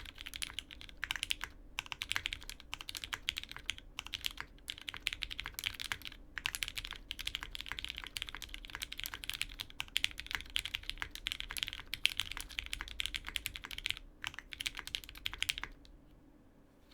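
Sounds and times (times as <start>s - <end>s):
mechanical keyboard typing: 0.0s - 15.9s.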